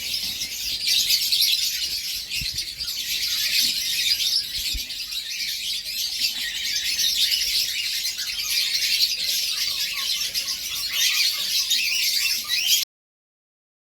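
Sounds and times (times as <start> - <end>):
canary warbling song: 0.0 - 12.8.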